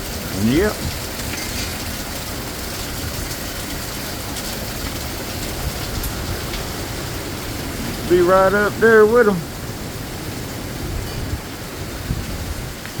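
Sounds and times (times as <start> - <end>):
heavy wind-driven rain: 0.0 - 13.0
storm wind: 0.0 - 13.0.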